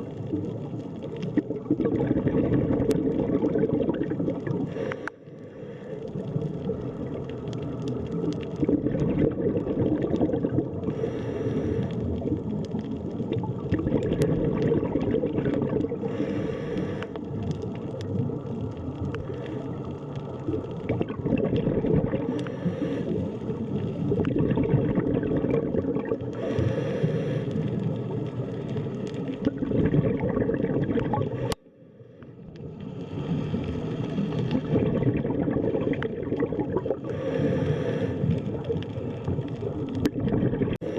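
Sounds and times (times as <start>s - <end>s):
underwater churning rumble: 0.0s - 40.9s.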